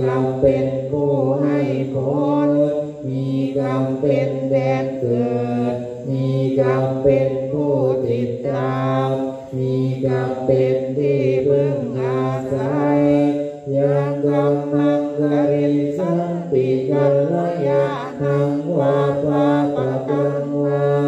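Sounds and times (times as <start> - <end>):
monks chanting in unison: 0.0 - 21.0.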